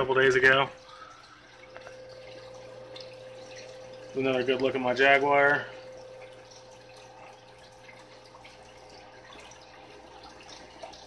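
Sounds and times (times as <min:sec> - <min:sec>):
steady low hum: 0:00.0 - 0:11.0
water trickling and dripping: 0:00.0 - 0:11.0.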